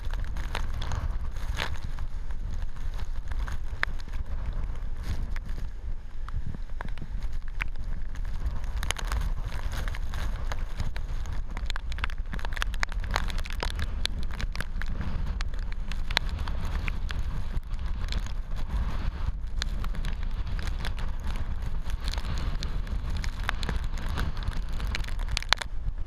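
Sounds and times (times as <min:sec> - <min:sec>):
rain spattering camera: 0:00.0 - 0:26.0
wind blasting across microphone: 0:00.0 - 0:26.0.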